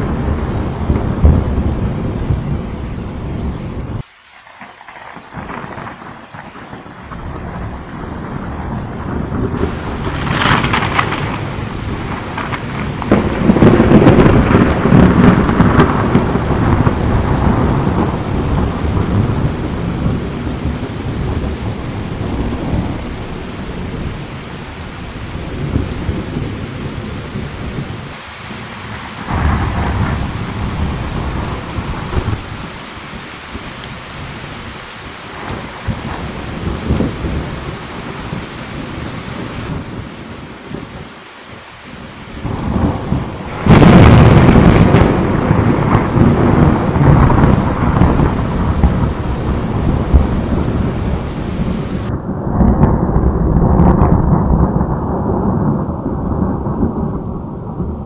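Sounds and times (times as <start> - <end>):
thunder cracks and rumbling: 0.0 - 41.1, 41.9 - 58.0
steady rain: 0.0 - 58.0.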